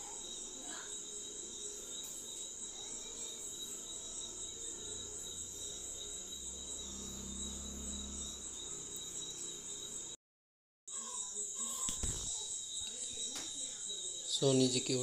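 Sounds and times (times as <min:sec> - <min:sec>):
crickets trilling: 0:00.0 - 0:10.2, 0:10.9 - 0:15.0.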